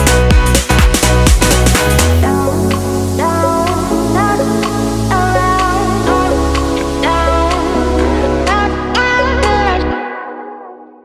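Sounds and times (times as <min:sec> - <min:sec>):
electronic music: 0:00.0 - 0:10.8.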